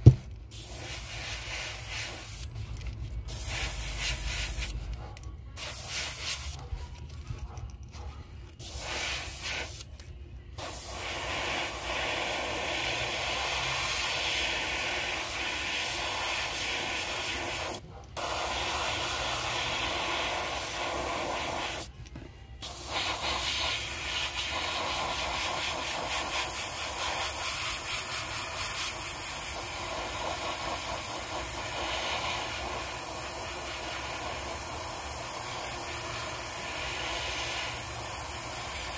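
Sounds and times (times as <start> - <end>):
airbrush hissing: 0.5 - 2.6, 3.2 - 4.9, 5.6 - 6.6, 8.6 - 9.9, 10.6 - 21.9, 22.6 - 38.9.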